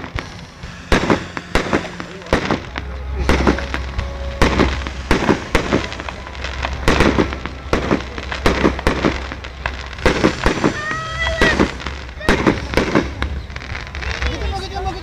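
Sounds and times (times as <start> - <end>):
fireworks bursting with sharp bangs: 0.0 - 15.0
fireworks crackle: 0.0 - 15.0.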